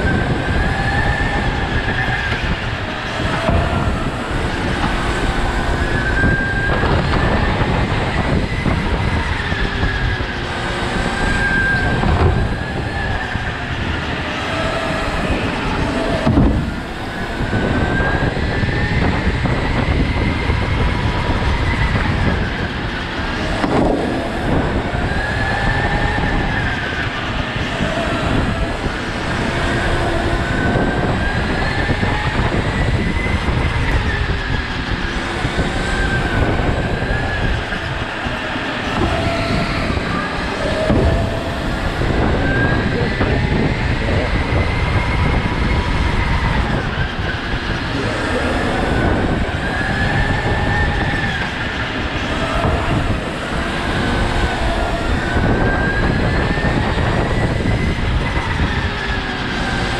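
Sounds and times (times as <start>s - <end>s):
go-kart motor whine: 0.0s - 59.9s
tyre and chassis noise: 0.0s - 59.9s.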